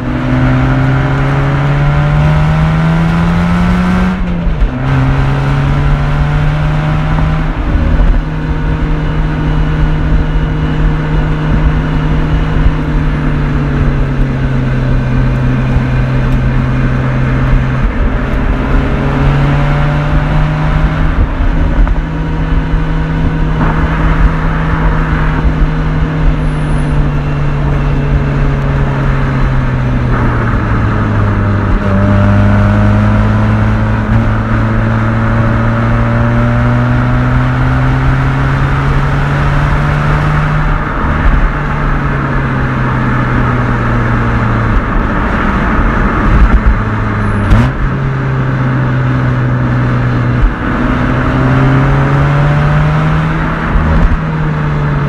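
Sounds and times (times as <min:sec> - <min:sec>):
rotary car engine revving: 0:00.0 - 0:55.0.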